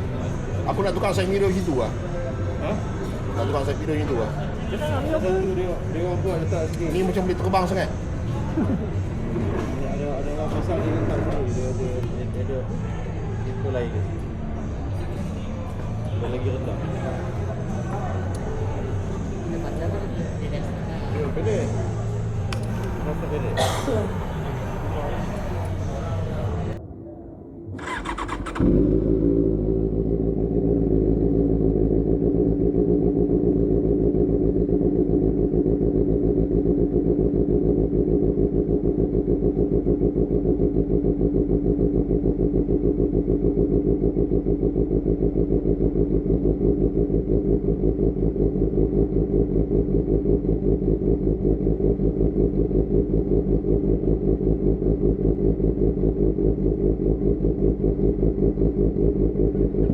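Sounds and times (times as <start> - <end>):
motorcycle engine idling: 0.0 - 26.8, 27.8 - 59.9.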